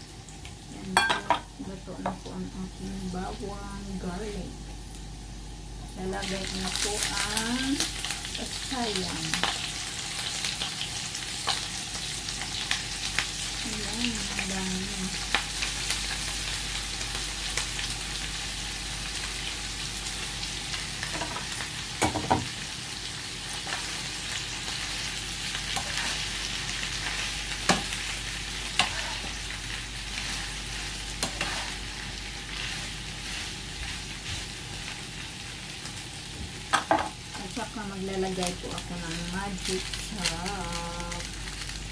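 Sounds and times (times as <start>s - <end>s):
shrimp sizzling in a frying pan: 0.0s - 41.9s.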